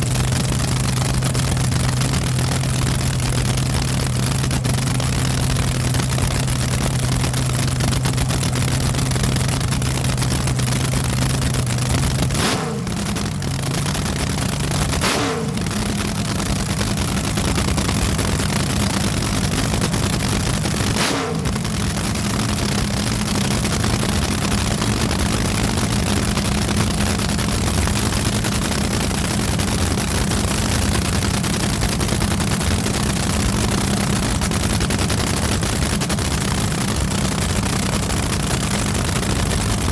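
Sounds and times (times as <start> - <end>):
engine running loudly: 0.0 - 39.9.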